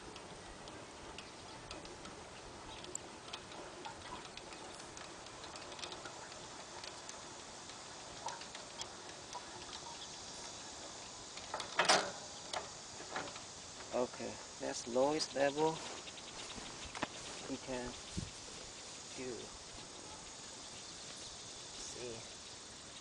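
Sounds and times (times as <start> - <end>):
low hiss: 0.0 - 23.0
small clicks and ticks: 0.0 - 23.0.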